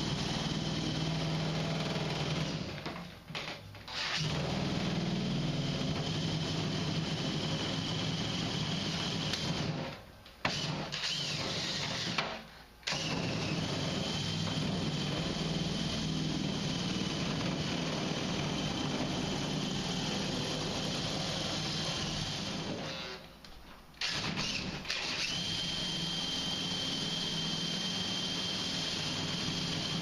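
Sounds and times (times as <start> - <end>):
power tool cutting sheet metal: 3.9 - 9.9, 10.5 - 23.2, 24.0 - 30.0.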